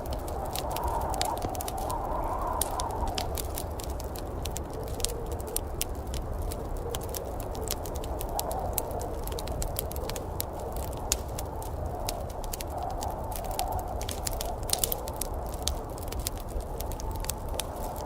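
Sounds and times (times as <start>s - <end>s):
storm wind whooshing: 0.0s - 18.0s
wood fire crackling: 0.0s - 18.0s.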